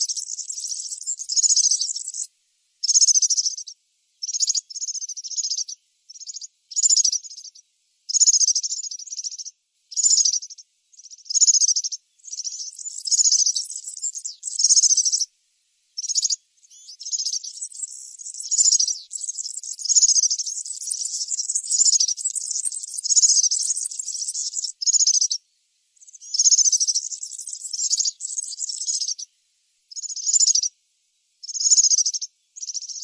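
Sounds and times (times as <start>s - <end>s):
bird jingling twitter song: 0.0s - 15.3s, 16.0s - 25.4s, 26.0s - 29.3s, 29.9s - 30.7s, 31.4s - 33.0s.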